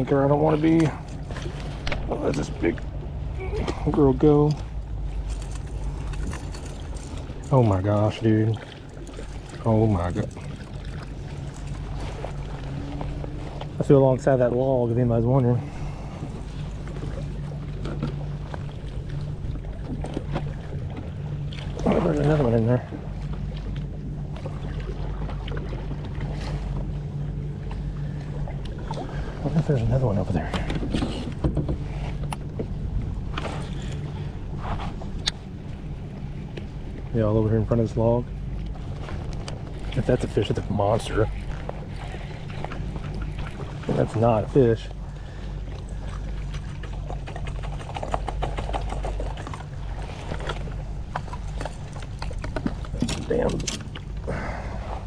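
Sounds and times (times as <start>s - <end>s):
low rumble: 0.0s - 55.0s
water trickling and splashing: 0.0s - 55.0s.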